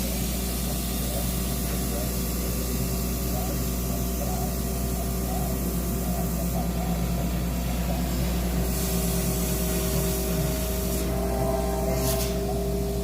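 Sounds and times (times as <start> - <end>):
laser cutter machine humming: 0.0 - 13.0.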